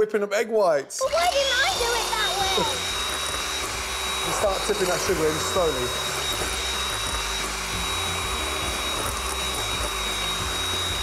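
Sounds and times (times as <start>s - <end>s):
electric hand mixer whirring: 1.0s - 11.0s.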